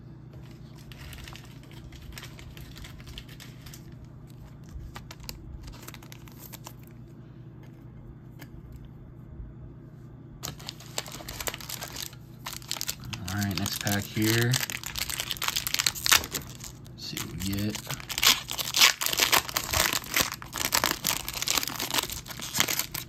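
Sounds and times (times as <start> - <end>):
steady low hum: 0.0 - 23.0
card rustling and clicking: 0.4 - 6.9, 10.4 - 23.0.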